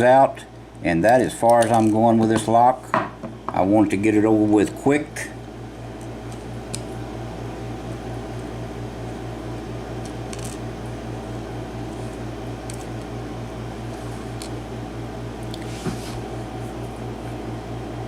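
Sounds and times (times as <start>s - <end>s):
steady low hum with flutter: 0.0s - 18.0s.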